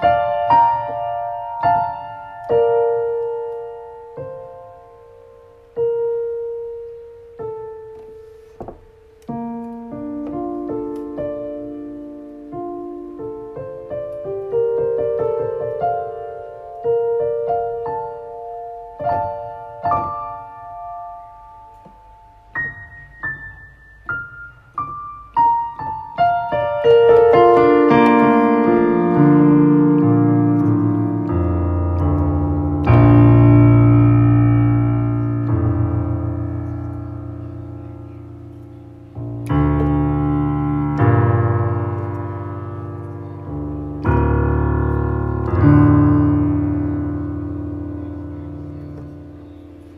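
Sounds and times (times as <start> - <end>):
solo piano: 0.0 - 49.9.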